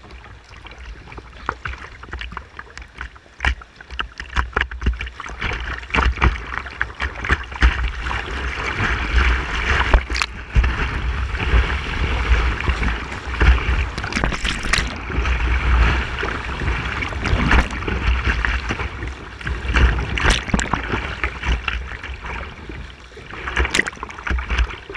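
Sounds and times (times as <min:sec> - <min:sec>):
paddle strokes: 0:00.0 - 0:24.9
water buffeting a boat: 0:00.0 - 0:24.9.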